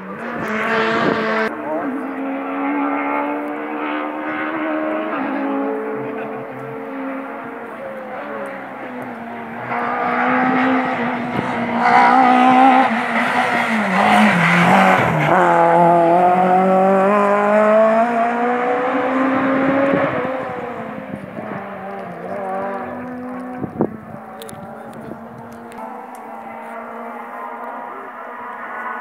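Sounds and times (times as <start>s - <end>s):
rally car engine racing: 0.0s - 29.0s.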